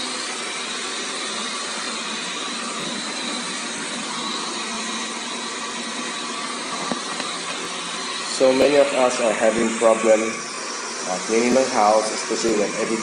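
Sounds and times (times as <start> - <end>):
robot vacuum suction noise: 0.0 - 13.0.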